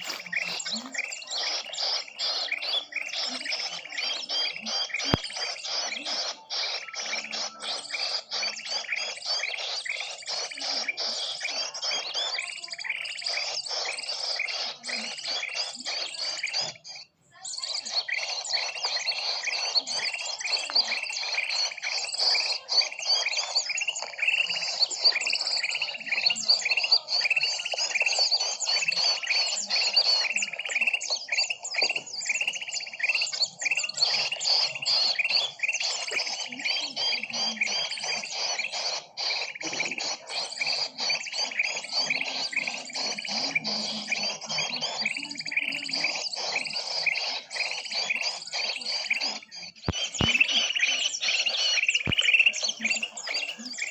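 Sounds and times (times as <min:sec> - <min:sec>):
many small birds chirping: 0:00.0 - 0:53.9.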